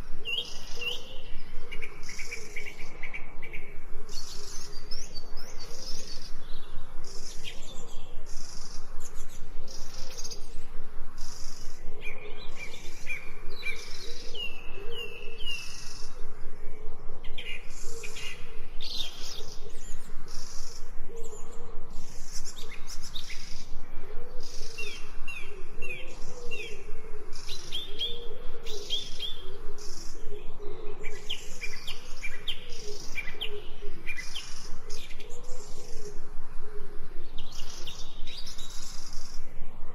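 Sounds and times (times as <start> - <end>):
birds chirping and warbling: 0.0 - 39.9.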